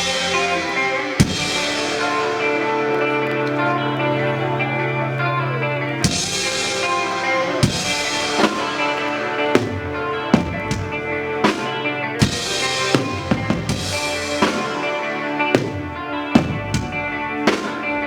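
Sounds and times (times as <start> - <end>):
drum kit hits: 0.0 - 3.6, 6.0 - 18.0
guitar and bass tones: 0.0 - 18.0.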